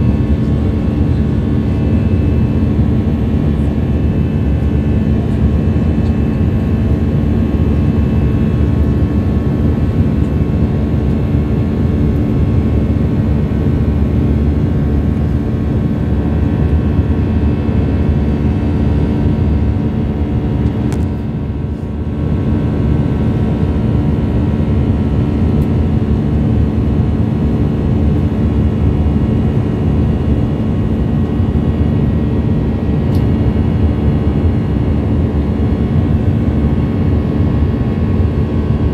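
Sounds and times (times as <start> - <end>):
jet engine roar in cabin: 0.0 - 38.9.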